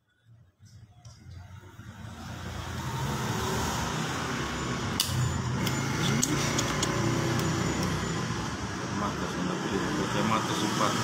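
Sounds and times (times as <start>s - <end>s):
vehicle engine rumbling: 0.2s - 11.0s.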